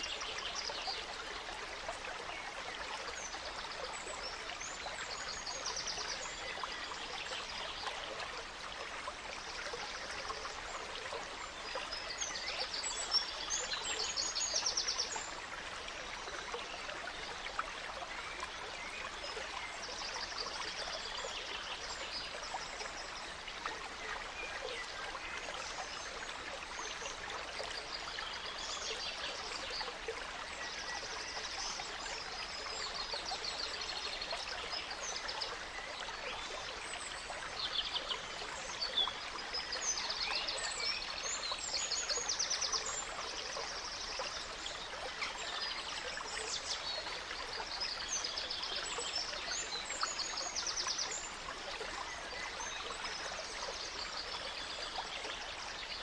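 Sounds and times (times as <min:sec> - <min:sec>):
gentle stream running: 0:00.0 - 0:56.0.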